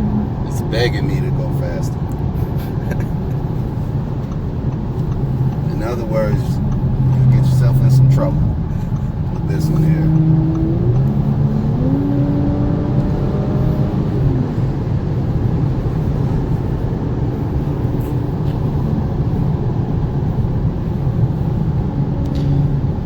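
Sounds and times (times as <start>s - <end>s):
car engine pulling at high speed: 0.0s - 23.0s
road and tyre noise: 0.0s - 23.0s.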